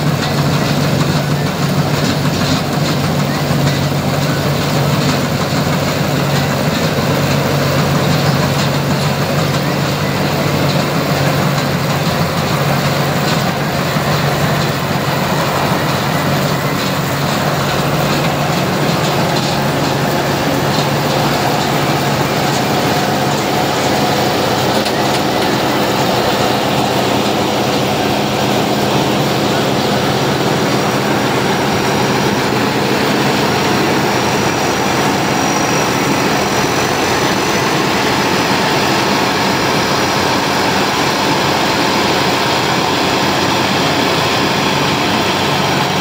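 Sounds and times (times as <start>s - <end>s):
combine harvester humming: 0.0s - 46.0s.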